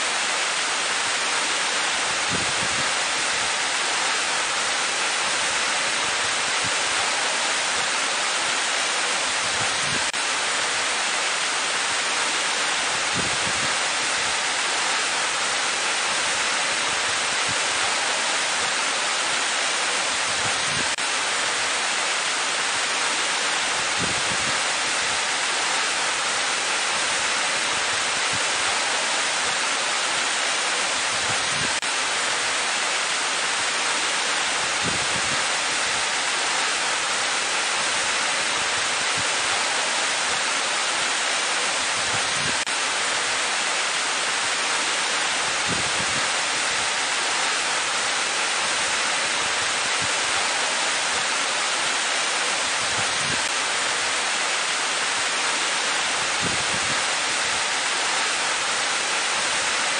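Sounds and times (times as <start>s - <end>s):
waterfall pouring into pool: 0.0s - 59.9s.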